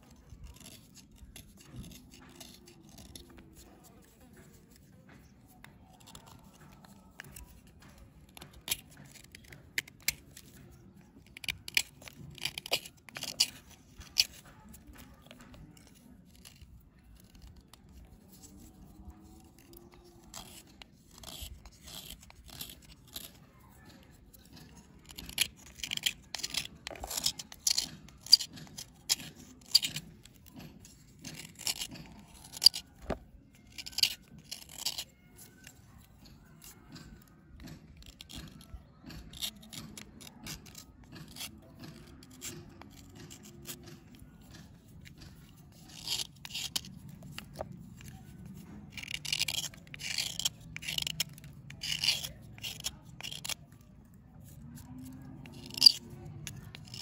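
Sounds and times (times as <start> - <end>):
knife scraping a dry bar: 0.0 - 4.9, 5.5 - 57.0.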